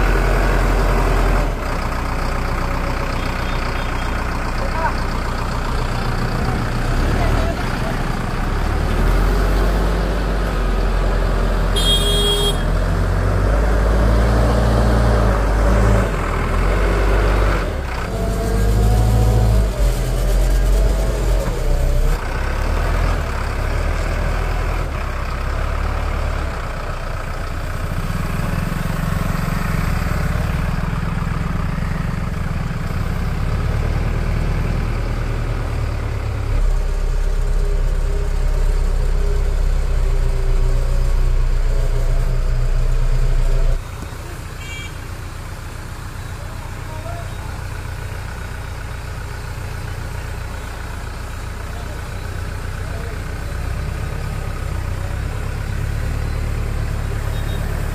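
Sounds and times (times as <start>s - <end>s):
backhoe diesel engine revving: 0.0s - 57.9s.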